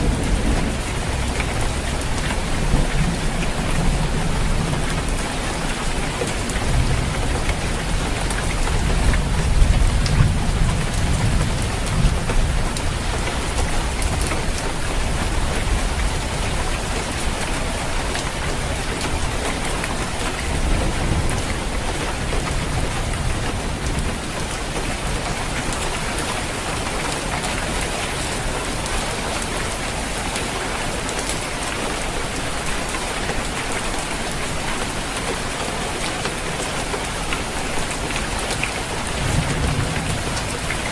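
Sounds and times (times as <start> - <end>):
rain on a roof: 0.0 - 40.9.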